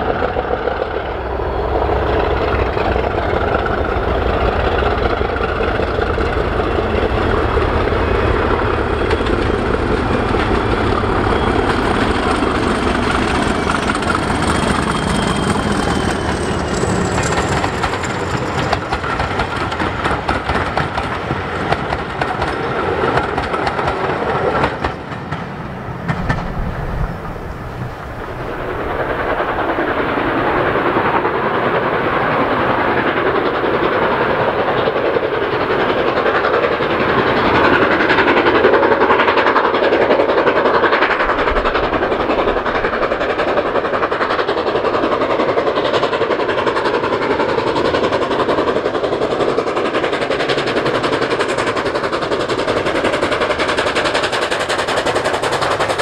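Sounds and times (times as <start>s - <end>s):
diesel locomotive engines: 0.0s - 56.0s
train wheels clickety-clack: 0.0s - 56.0s.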